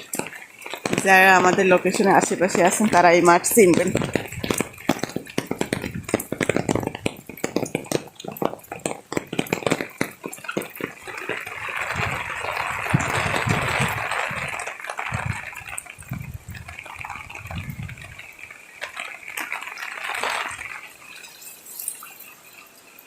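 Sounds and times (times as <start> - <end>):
pouring water rushing: 0.0 - 23.0
rainwater dripping: 0.0 - 23.0.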